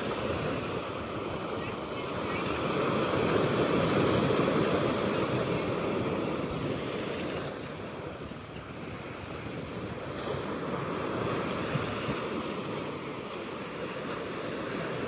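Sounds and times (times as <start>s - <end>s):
ocean surf washing onto shore: 0.0s - 15.0s.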